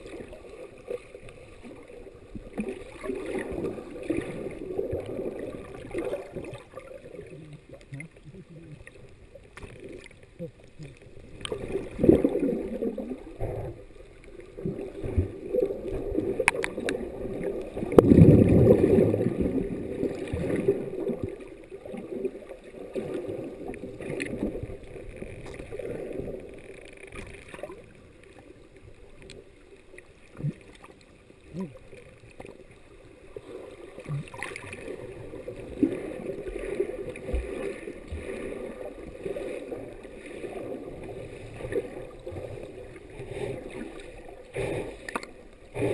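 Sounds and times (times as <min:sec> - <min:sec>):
muffled underwater sloshing: 0:00.0 - 0:45.9.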